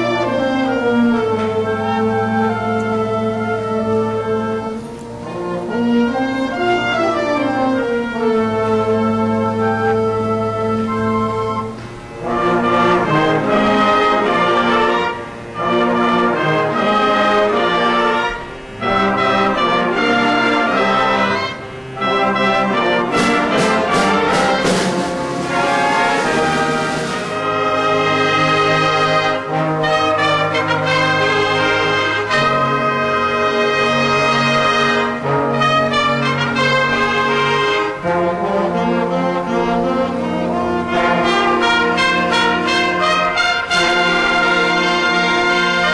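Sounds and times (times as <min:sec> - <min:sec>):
orchestral brass chords: 0:00.0 - 0:45.9.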